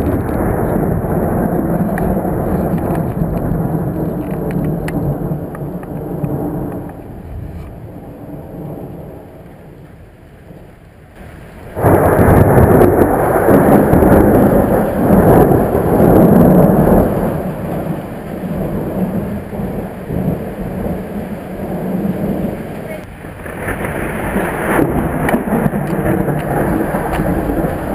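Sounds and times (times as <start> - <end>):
loud thunder clap: 0.0 - 7.5, 11.2 - 22.6, 23.2 - 27.9
rain hiss: 0.0 - 27.9
thunder rumbling: 0.0 - 27.9.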